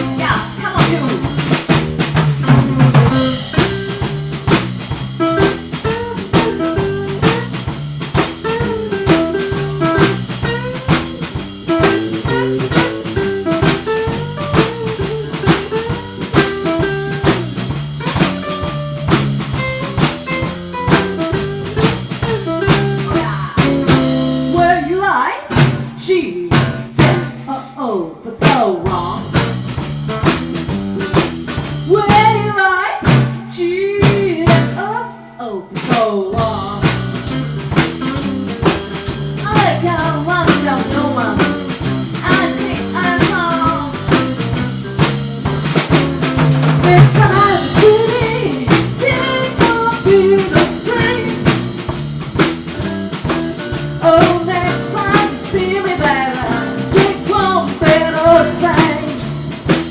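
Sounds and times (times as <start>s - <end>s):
bending sliding lead guitar lines: 0.0s - 27.5s, 36.4s - 59.9s
walking bass line: 0.0s - 27.5s, 28.5s - 34.9s, 36.4s - 59.9s
blues band playing: 0.0s - 27.7s, 28.4s - 35.0s, 35.8s - 59.9s
drum kit beat: 0.0s - 27.8s, 28.4s - 35.2s, 35.8s - 59.9s.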